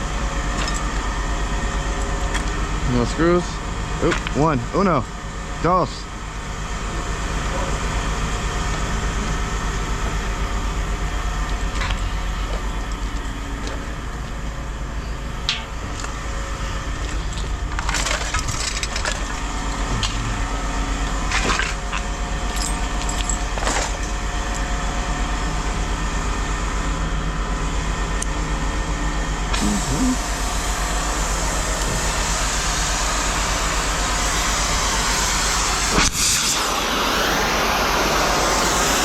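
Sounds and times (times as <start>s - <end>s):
machine hum: 0.0s - 39.0s.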